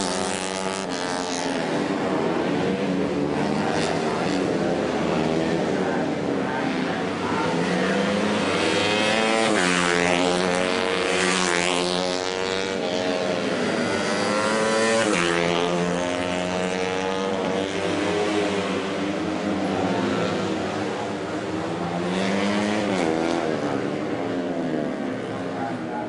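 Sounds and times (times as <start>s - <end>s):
racing motorcycle engines revving: 0.0s - 26.0s.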